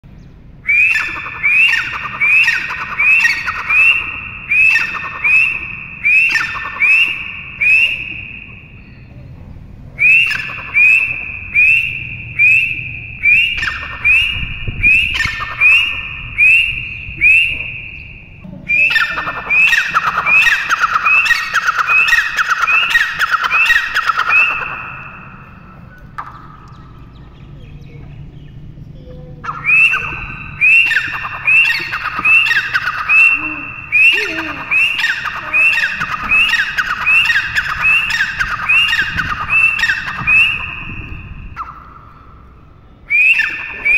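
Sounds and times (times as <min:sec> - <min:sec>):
francolin calling shrill notes: 0:00.7 - 0:08.9, 0:10.0 - 0:26.8, 0:29.4 - 0:42.2.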